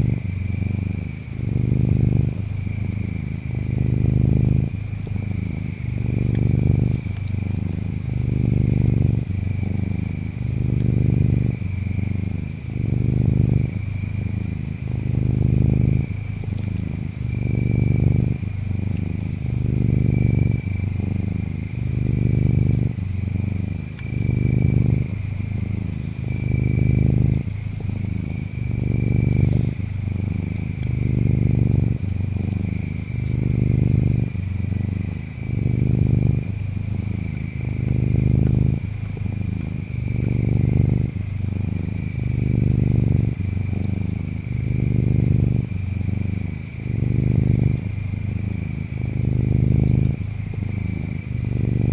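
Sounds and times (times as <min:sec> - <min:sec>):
cat purring: 0:00.0 - 0:51.9
insects chirping: 0:00.0 - 0:51.9.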